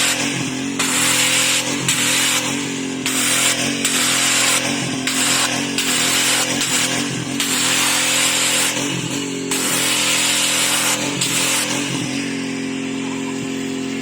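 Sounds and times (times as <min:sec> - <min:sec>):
high-pressure spray hissing: 0:00.0 - 0:12.3
pressure washer engine running: 0:00.0 - 0:14.0.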